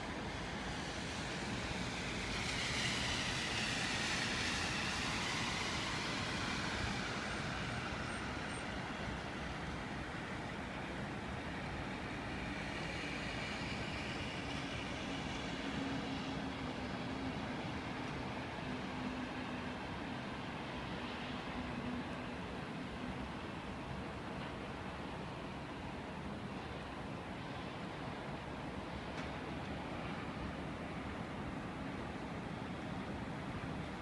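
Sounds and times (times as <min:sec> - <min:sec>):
city traffic rush: 0:00.0 - 0:34.0.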